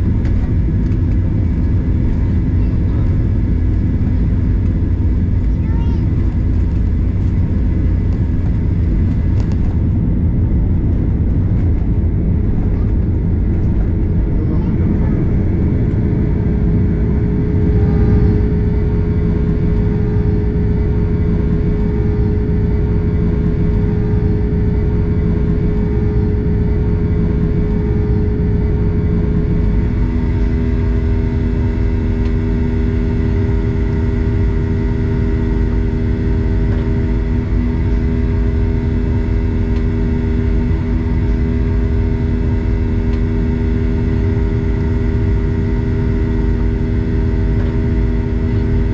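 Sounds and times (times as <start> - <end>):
droning hum: 0.0 - 48.9
jet engines roaring: 0.0 - 48.9.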